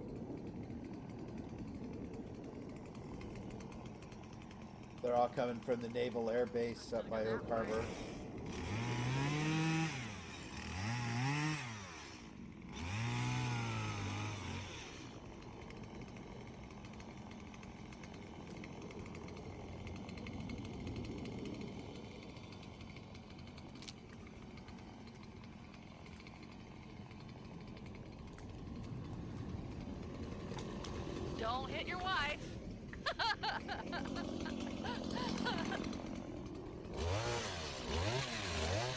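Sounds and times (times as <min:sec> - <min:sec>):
steady mechanical running noise: 0:00.0 - 0:38.9
chainsaw revving: 0:00.6 - 0:38.9.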